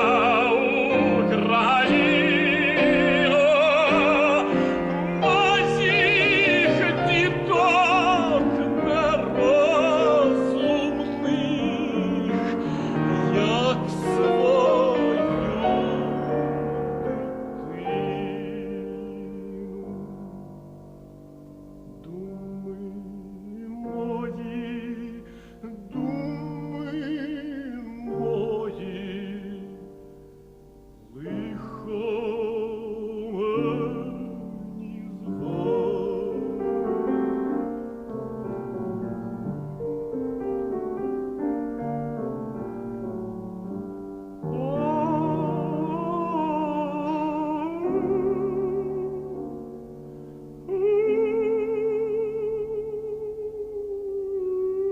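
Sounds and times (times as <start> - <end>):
operatic tenor singing: 0.0 - 20.5, 21.9 - 30.0, 31.0 - 38.1, 44.4 - 54.9
piano accompaniment: 0.0 - 54.9.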